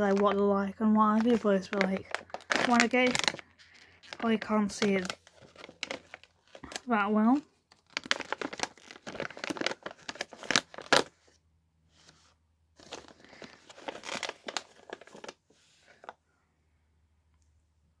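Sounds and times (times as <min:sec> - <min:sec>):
plastic packet crinkling: 0:00.0 - 0:11.3, 0:12.8 - 0:16.1.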